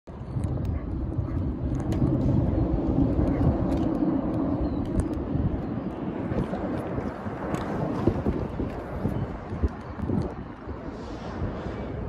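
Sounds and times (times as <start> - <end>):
distant traffic rumble: 0.1 - 12.0.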